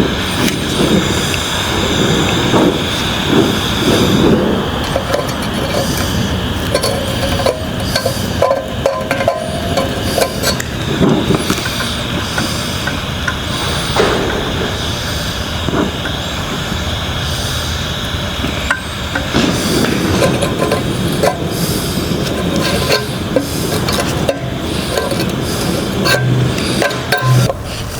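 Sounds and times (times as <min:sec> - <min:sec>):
steady rushing roar: 0:00.0 - 0:27.9.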